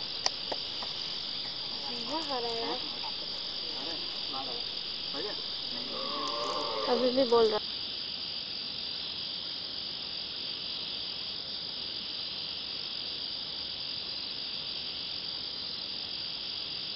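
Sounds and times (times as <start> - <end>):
high-pitched insect chorus: 0.0 - 16.9.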